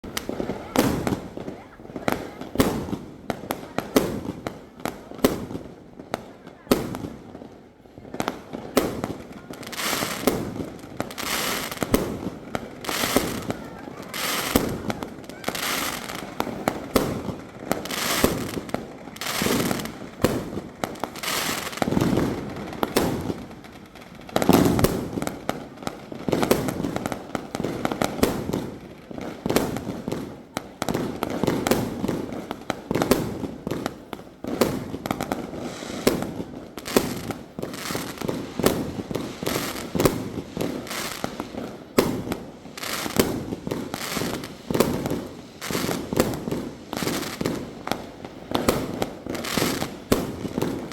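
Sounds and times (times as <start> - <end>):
firework aerial bursts: 0.0 - 50.9.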